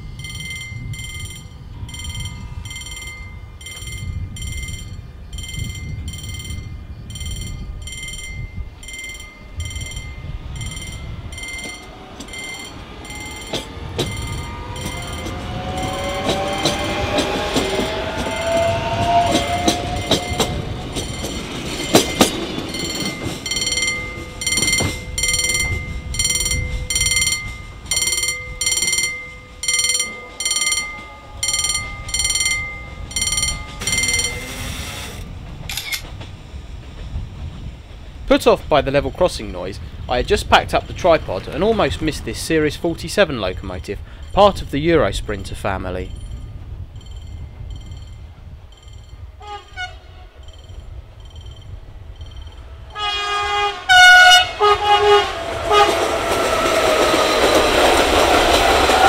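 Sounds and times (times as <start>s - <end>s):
level crossing warning bell: 0.0s - 36.1s, 40.4s - 54.5s
electric train passing: 0.0s - 59.0s
wheels clicking over rail joints: 0.0s - 59.0s.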